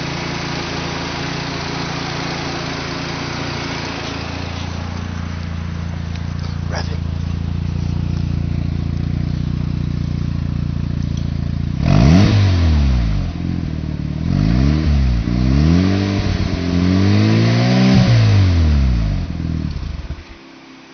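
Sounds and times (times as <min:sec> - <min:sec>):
rotary engine idling and revving: 0:00.0 - 0:20.9.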